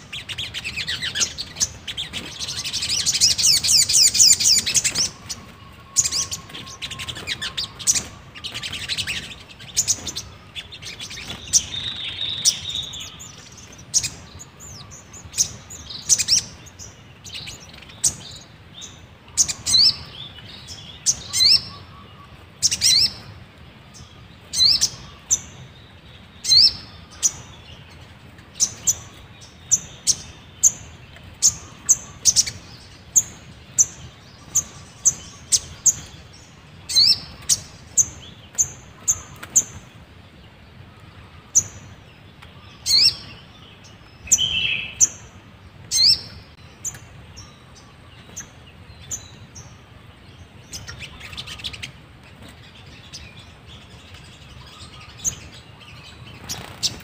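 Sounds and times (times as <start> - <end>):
birds twittering and chirping: 0.0 - 57.0.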